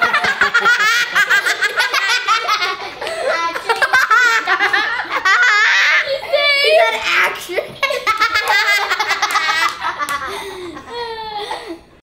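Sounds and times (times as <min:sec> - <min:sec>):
children laughing: 0:00.0 - 0:12.0.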